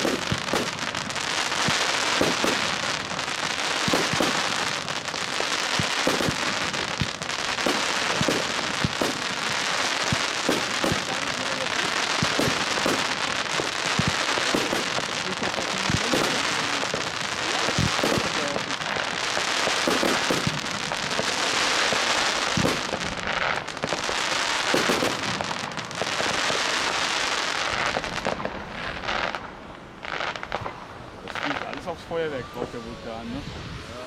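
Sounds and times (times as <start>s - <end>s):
firework shots bursting: 0.0s - 29.5s
firework fountains hissing and crackling: 0.0s - 34.0s.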